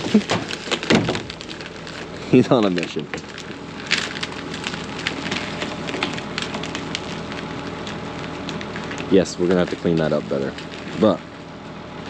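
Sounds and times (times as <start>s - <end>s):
debris crackling and snapping: 0.0s - 12.0s
engine hum: 0.0s - 12.0s.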